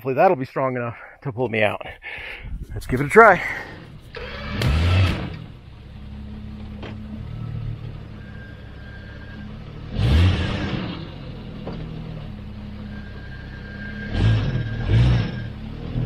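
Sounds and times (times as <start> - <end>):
car engine revving: 3.0 - 16.0.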